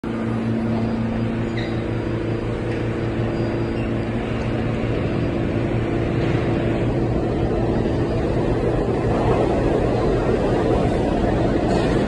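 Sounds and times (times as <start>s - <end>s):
subway car humming: 0.0s - 12.0s.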